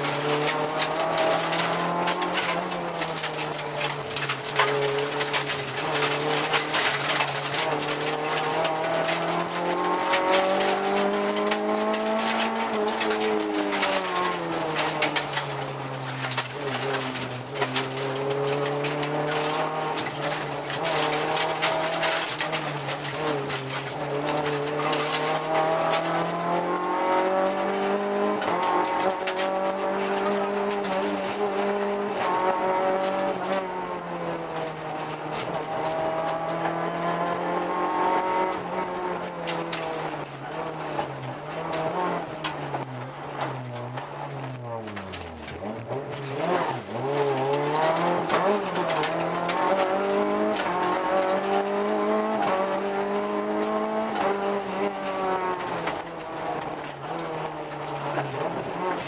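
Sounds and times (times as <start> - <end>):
rally car engine revving: 0.0 - 59.0
road and tyre noise: 0.0 - 59.0.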